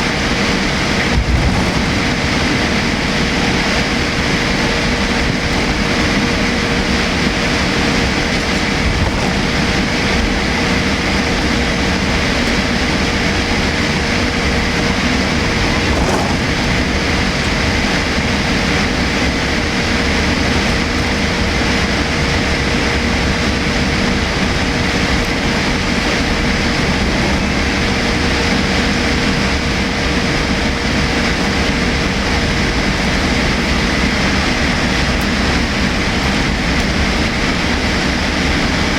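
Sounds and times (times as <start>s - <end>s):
airliner cabin air rush: 0.0s - 38.9s
constant hum: 0.0s - 38.9s
engine drone: 0.0s - 38.9s.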